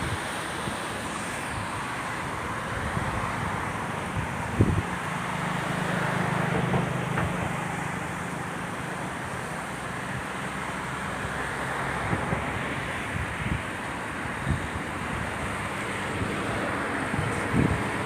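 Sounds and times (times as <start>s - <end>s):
traffic noise: 0.0s - 18.0s
vehicle engine humming by: 0.0s - 18.0s.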